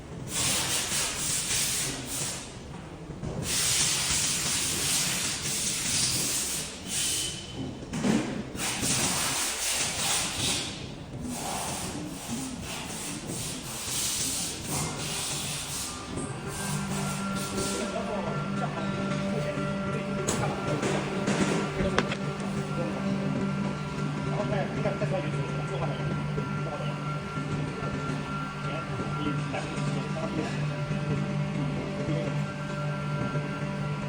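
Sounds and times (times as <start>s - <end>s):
cutting machine hissing and scraping: 0.3s - 2.6s, 3.4s - 7.6s, 8.6s - 31.3s.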